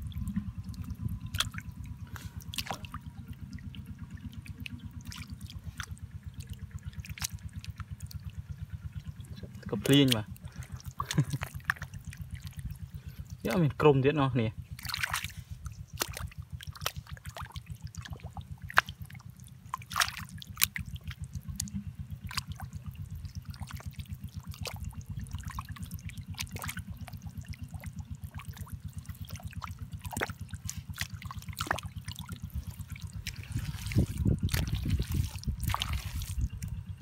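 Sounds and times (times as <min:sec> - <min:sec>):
mud squelching: 0:00.0 - 0:37.0
muddy water trickling: 0:00.0 - 0:37.0
rapid low throb: 0:00.0 - 0:37.0.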